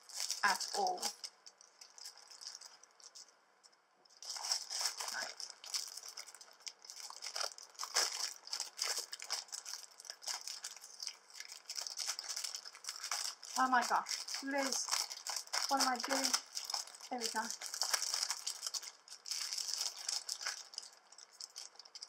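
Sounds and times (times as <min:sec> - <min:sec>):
plastic bag crinkling: 0:00.0 - 0:03.4, 0:04.1 - 0:22.0.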